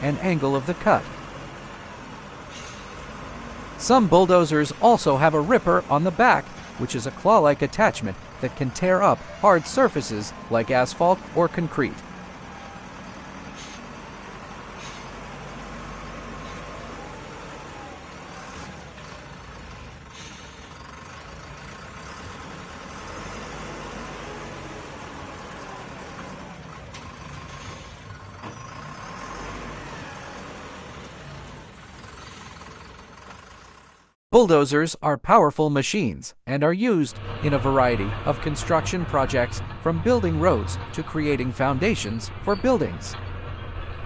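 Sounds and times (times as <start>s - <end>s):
diesel engine low hum: 0.0s - 34.2s, 37.1s - 44.0s.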